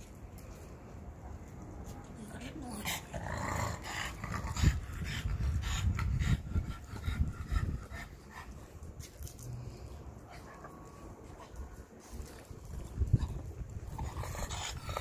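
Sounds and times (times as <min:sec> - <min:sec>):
dogs panting: 0:02.6 - 0:15.0.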